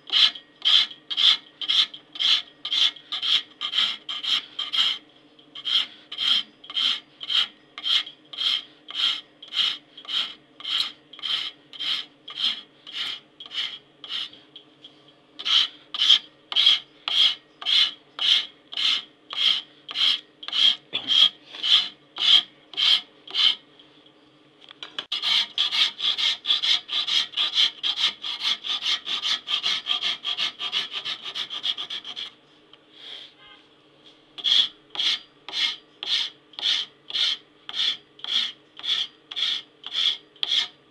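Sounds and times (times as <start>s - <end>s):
hand file rasping on brass: 0.1s - 5.0s, 5.6s - 14.4s, 15.4s - 23.6s, 25.1s - 32.3s, 34.4s - 40.8s.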